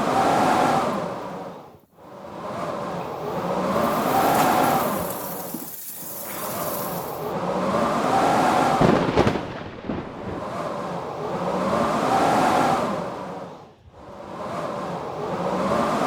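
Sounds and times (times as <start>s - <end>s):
blizzard wind howling: 0.0s - 16.0s.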